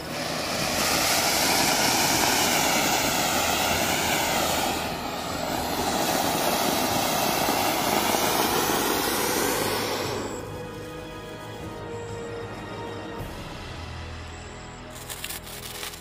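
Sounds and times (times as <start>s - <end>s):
fireworks spraying with rushing hiss: 0.0s - 12.1s, 13.2s - 16.0s.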